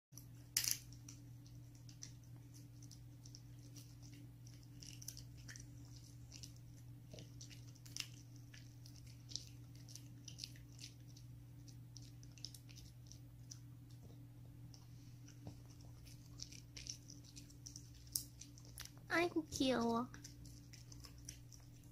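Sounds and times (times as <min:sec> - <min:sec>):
dog chewing a treat: 0:00.2 - 0:21.9
steady low hum: 0:00.2 - 0:21.9.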